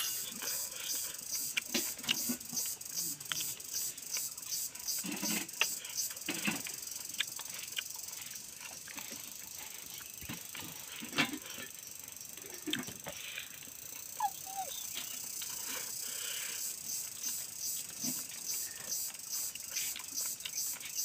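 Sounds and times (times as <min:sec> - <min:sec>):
man chewing with open mouth: 0:00.3 - 0:11.8, 0:12.4 - 0:21.0.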